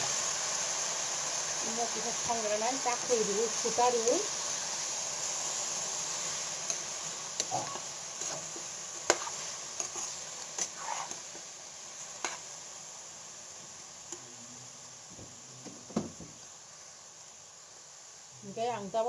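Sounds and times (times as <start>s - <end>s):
chicken sizzling in a wok: 0.0s - 19.0s.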